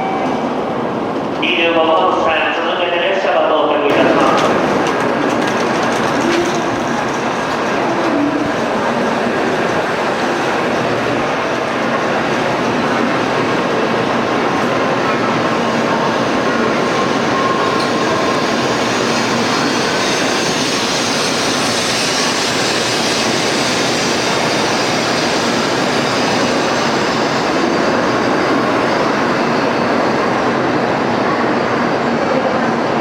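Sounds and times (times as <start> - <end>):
train running: 3.9 - 33.0.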